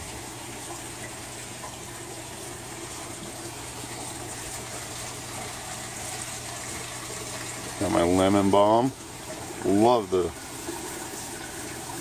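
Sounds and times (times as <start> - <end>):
water flowing: 0.0 - 12.0.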